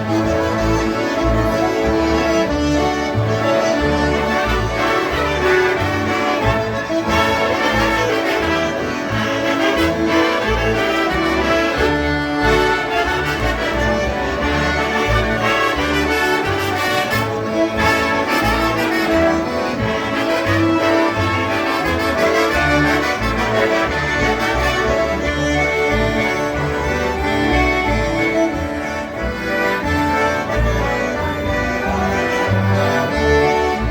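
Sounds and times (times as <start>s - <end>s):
polka music on concertinas: 0.0s - 33.9s.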